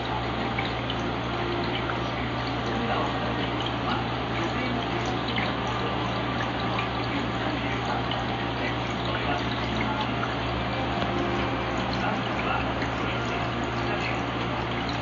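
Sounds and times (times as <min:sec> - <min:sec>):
low pump hum: 0:00.0 - 0:15.0
water flow and bubbling: 0:00.0 - 0:15.0.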